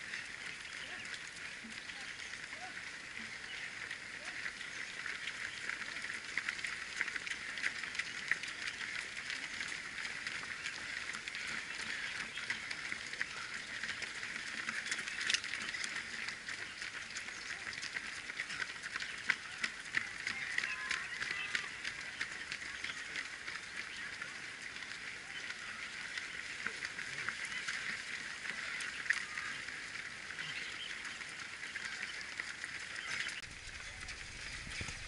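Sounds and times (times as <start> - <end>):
runners' footsteps on road: 0.0 - 35.0.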